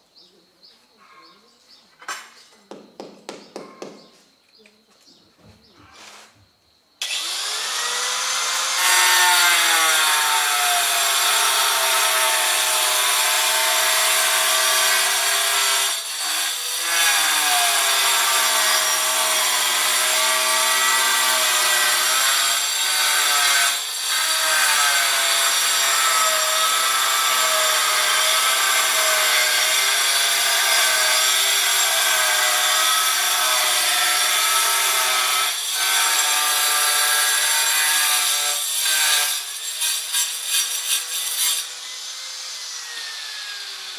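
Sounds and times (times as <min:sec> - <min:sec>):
angle grinder cutting: 0:07.0 - 0:43.9.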